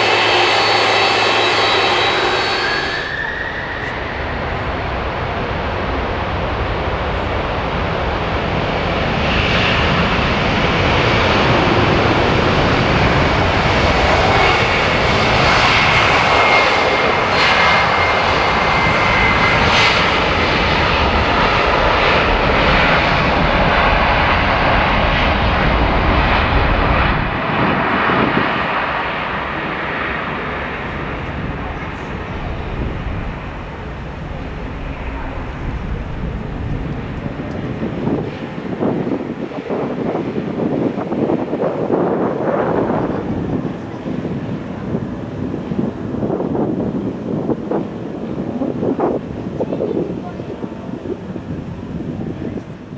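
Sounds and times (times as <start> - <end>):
thin engine whine: 0.0 - 46.0
jet engine roar: 0.0 - 52.9.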